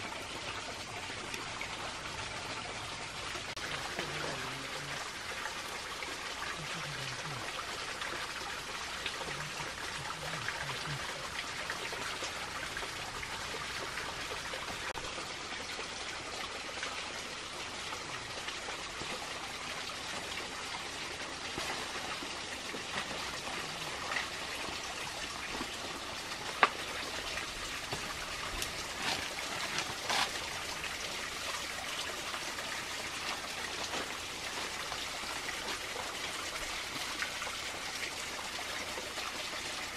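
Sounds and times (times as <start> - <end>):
trickling water hiss: 0.0 - 39.9.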